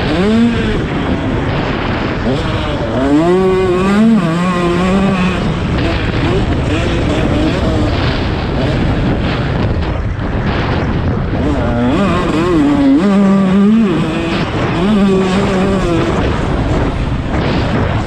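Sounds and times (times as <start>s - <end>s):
dirt bike engine revving: 0.0s - 18.0s
wind on the microphone: 0.0s - 18.0s.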